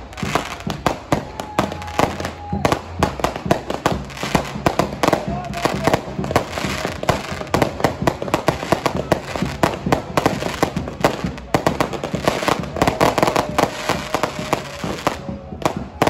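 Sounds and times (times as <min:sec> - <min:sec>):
crowd voices: 0:00.0 - 0:16.0
fireworks bangs and crackles: 0:00.0 - 0:16.0.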